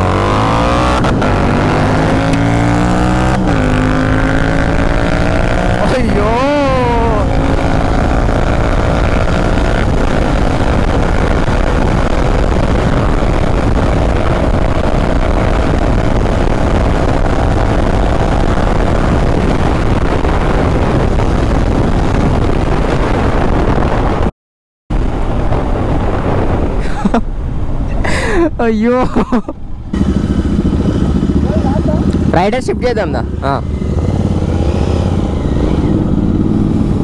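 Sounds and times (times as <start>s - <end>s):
motorcycle engine pulling hard: 0.0s - 22.6s, 29.9s - 37.0s
wind rushing over microphone: 0.0s - 24.3s, 24.9s - 37.0s.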